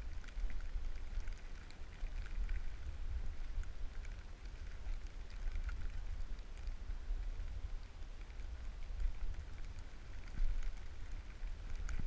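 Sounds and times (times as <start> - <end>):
small crackles: 0.0 - 12.0
wind on microphone: 0.0 - 12.0.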